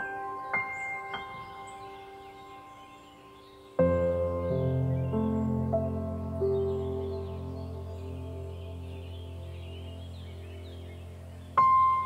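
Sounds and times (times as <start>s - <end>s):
birds chirping: 0.0s - 12.0s
soft instrumental music: 0.0s - 12.0s.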